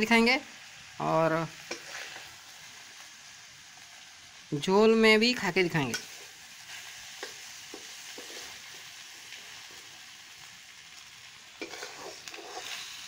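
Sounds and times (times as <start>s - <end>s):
curry sizzling in a wok: 0.0s - 13.0s.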